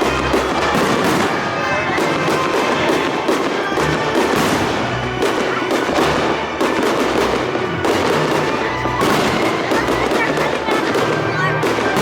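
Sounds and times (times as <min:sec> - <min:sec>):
fireworks crackling: 0:00.0 - 0:12.0
music playing: 0:00.0 - 0:12.0.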